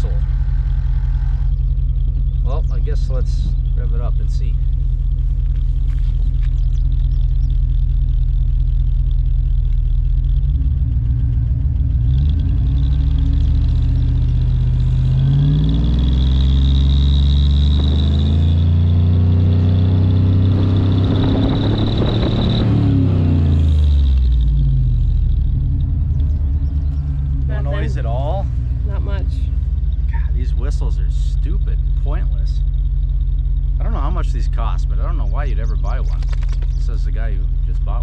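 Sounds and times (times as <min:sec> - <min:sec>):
car exhaust idling and revving: 0:00.0 - 0:38.0.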